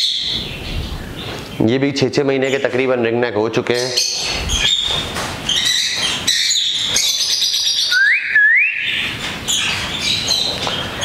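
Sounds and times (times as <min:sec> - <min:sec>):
parrots chirping and chattering: 0:00.0 - 0:02.9, 0:03.6 - 0:11.0.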